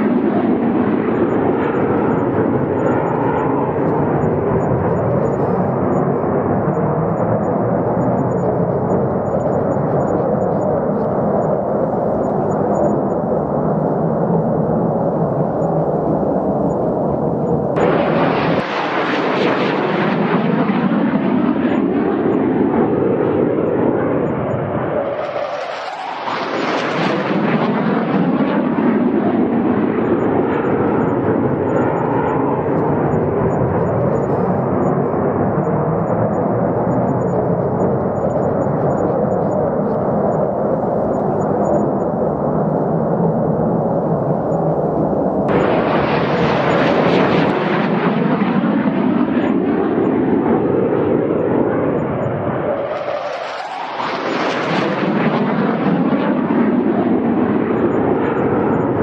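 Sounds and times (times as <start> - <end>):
fighter jets flying past: 0.0 - 59.0.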